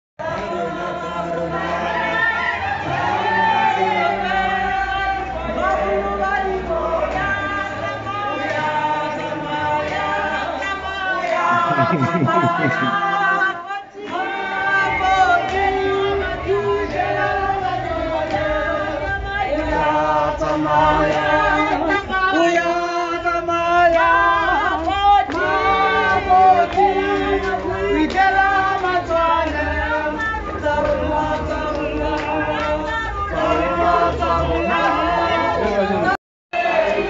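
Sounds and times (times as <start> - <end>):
choir singing: 0.2 - 37.0.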